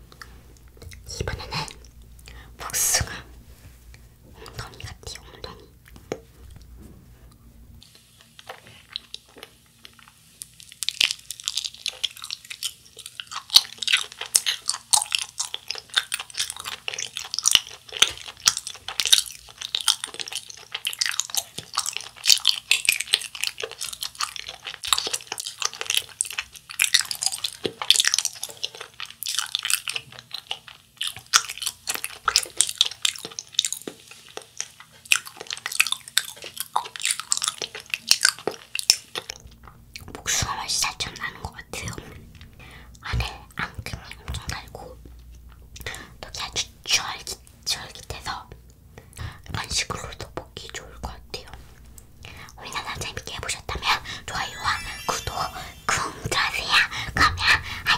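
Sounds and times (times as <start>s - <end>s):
person chewing with wet clicks: 0.1s - 2.4s, 3.9s - 6.7s, 7.9s - 57.9s.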